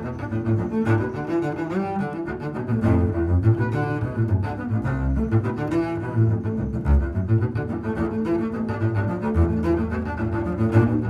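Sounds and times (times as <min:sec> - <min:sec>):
double bass plucked: 0:00.0 - 0:11.0.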